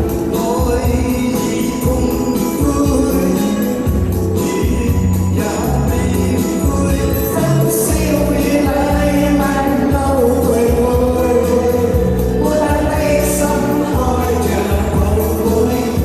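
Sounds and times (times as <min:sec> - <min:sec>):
backing track with steady beat: 0:00.0 - 0:16.0
person singing pop ballad: 0:00.0 - 0:16.0.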